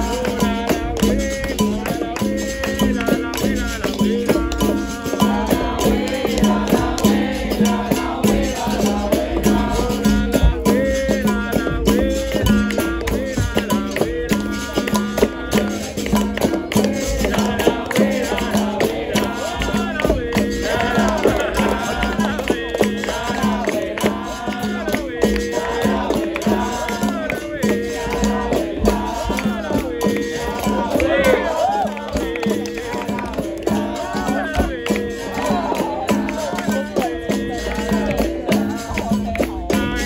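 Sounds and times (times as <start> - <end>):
group singing: 0.0 - 40.0
hand percussion: 0.0 - 40.0
shaker rattle: 0.0 - 40.0.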